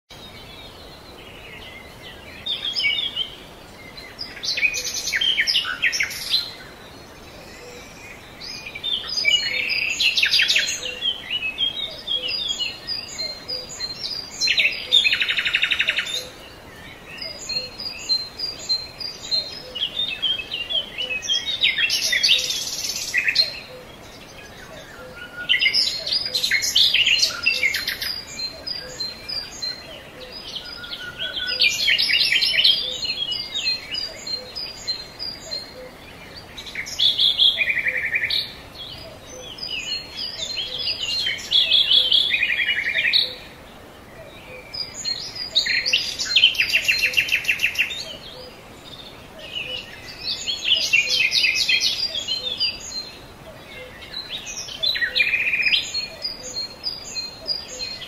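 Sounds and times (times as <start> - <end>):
birds singing: 0.1 - 58.0.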